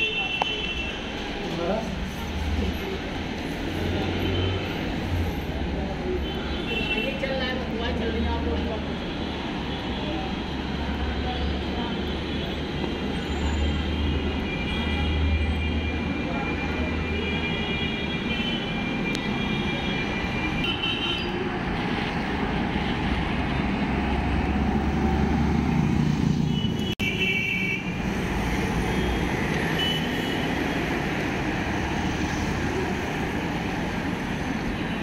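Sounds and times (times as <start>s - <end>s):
city street traffic: 0.0s - 35.0s.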